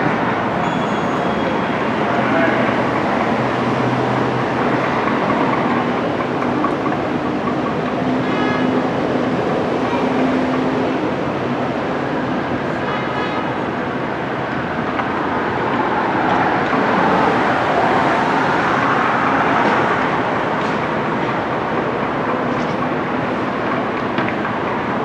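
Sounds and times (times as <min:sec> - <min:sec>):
moving vehicle running noise: 0:00.0 - 0:12.8, 0:13.5 - 0:25.0.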